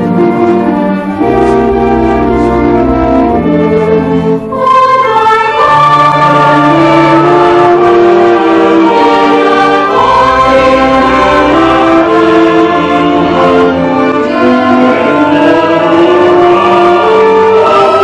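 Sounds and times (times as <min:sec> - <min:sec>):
orchestra playing slow melody: 0:00.0 - 0:18.0.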